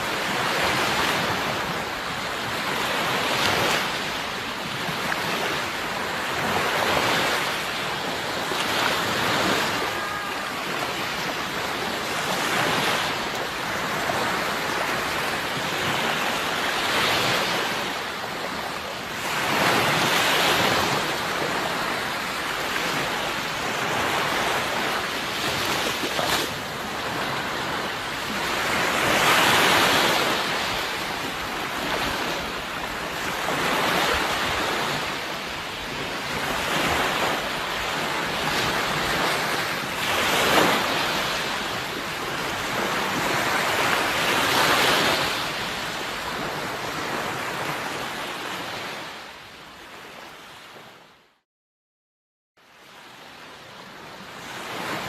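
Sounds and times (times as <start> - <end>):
sea waves breaking: 0.0 - 51.1.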